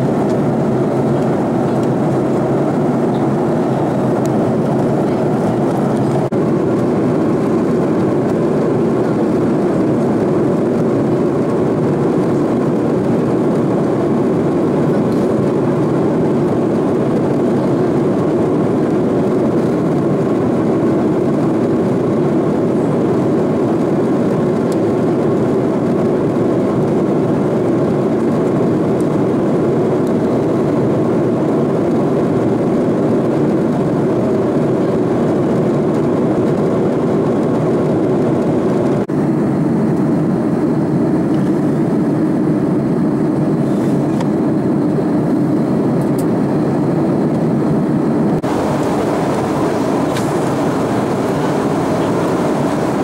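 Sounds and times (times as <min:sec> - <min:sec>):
airflow rush in airliner cabin: 0:00.0 - 0:53.0
jet engine drone: 0:00.0 - 0:53.0.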